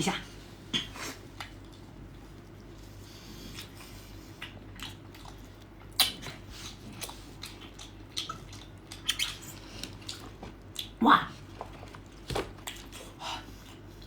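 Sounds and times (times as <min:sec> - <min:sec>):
person chewing with mouth open: 0:00.6 - 0:14.0.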